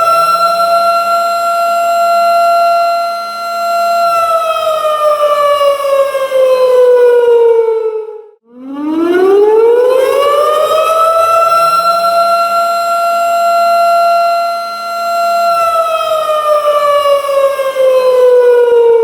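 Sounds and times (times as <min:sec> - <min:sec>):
tornado siren wailing: 0:00.0 - 0:19.0.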